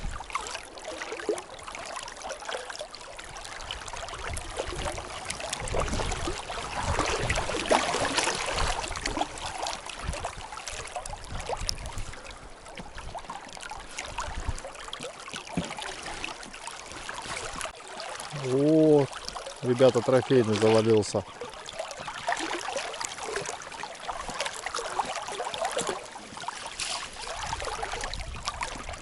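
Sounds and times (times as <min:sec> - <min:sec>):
river current gurgling: 0:00.0 - 0:29.0
small water splashes: 0:00.0 - 0:29.0.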